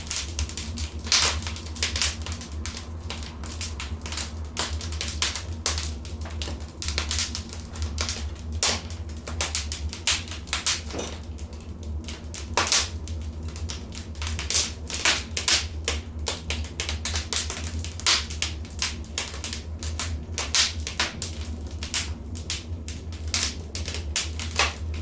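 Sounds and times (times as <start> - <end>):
steady low rumble: 0.0 - 20.6
wood fire crackling and popping: 0.0 - 25.0.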